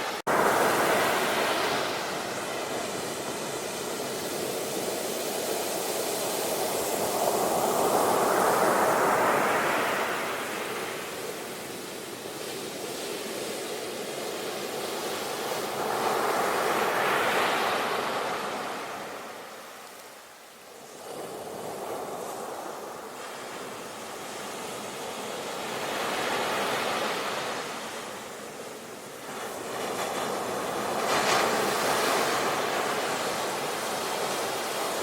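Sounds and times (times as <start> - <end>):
ocean waves breaking on shore: 0.0 - 35.0.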